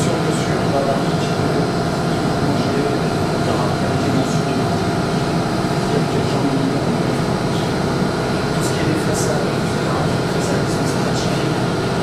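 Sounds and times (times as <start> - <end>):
workshop machinery running: 0.0 - 12.0.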